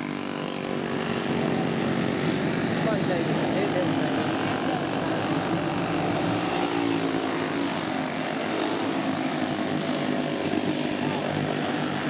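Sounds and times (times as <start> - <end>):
go-kart engines racing: 0.0 - 12.0.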